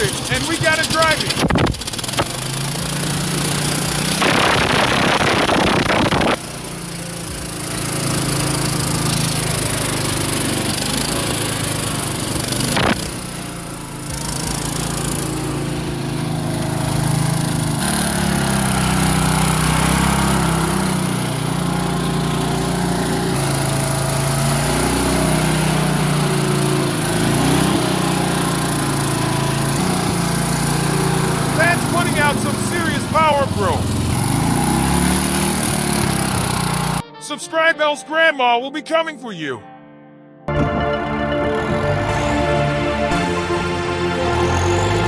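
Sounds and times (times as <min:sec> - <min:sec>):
riding mower engine revving: 0:00.0 - 0:37.0, 0:40.5 - 0:45.0.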